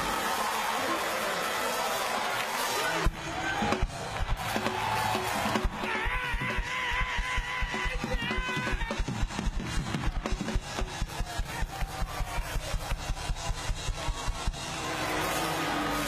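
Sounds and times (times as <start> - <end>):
rapid drum beat: 3.0 - 16.0.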